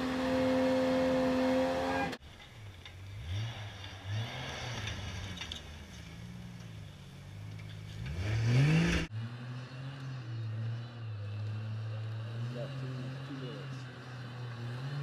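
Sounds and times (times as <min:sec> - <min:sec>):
car engine revving: 0:00.0 - 0:02.2, 0:03.0 - 0:15.0.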